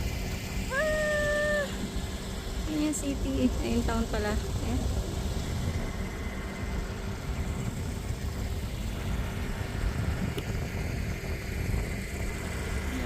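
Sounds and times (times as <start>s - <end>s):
car rumble inside cabin: 0.0s - 13.0s
faint steady hum: 0.0s - 13.0s.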